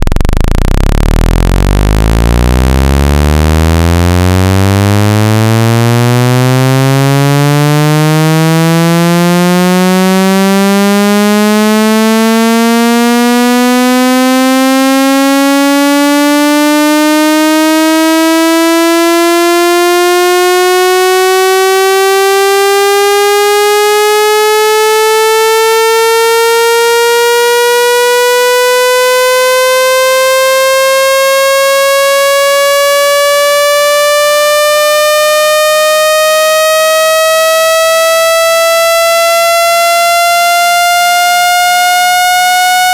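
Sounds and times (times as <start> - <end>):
synthesized tone rising in pitch: 0.0 - 42.9.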